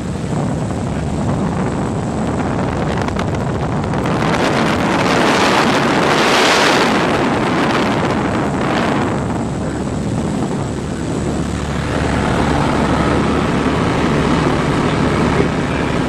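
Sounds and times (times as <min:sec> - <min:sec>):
plane engine and propeller drone: 0:00.0 - 0:16.0
wind rushing: 0:00.0 - 0:16.0.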